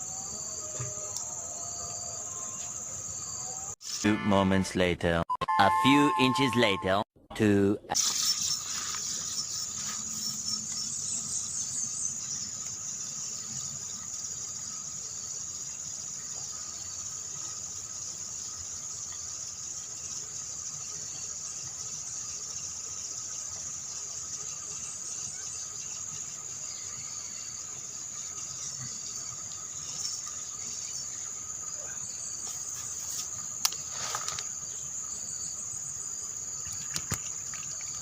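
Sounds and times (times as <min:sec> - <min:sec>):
insects chirring: 0:00.0 - 0:04.2, 0:08.0 - 0:38.0.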